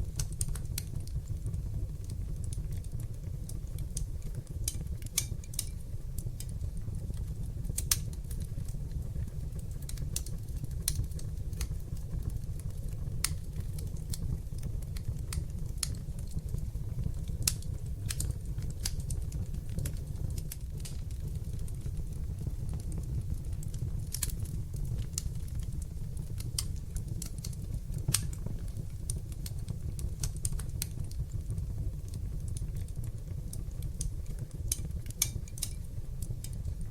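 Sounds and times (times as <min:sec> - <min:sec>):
fire crackling and popping: 0:00.0 - 0:36.9
fire flames rumbling: 0:00.0 - 0:36.9.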